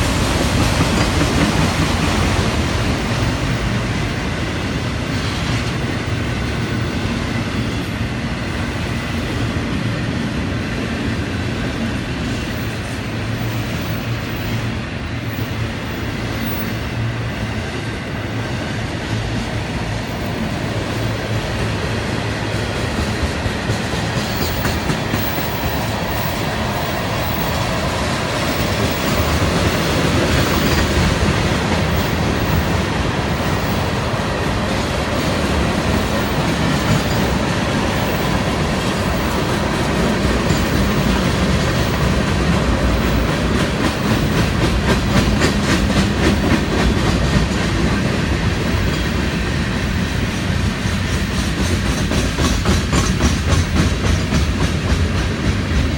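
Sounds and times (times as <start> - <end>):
wheels clickety-clack over rail joints: 0.0 - 55.9.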